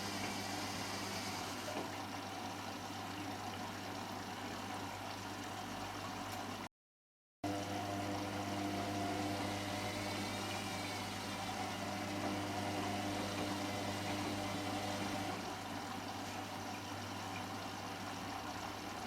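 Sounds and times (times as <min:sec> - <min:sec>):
washing machine hum: 0:00.0 - 0:06.7, 0:07.4 - 0:19.0.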